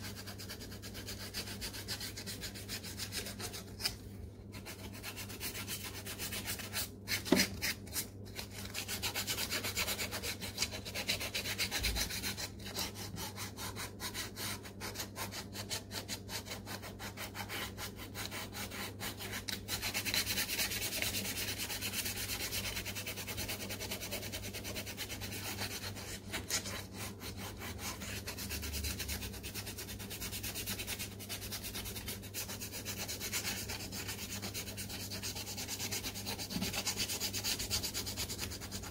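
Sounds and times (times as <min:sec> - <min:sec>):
sandpaper scratching leather: 0:04.6 - 0:38.9.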